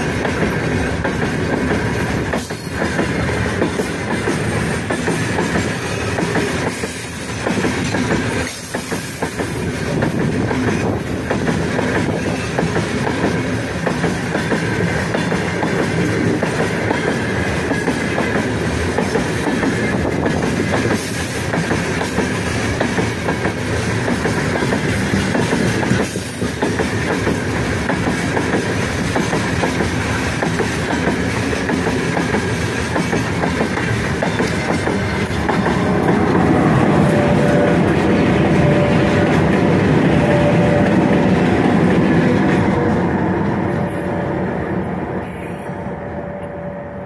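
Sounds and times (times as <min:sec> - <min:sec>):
train wheels clacking over rails: 0:00.0 - 0:45.8
electric locomotive hum: 0:00.0 - 0:47.0.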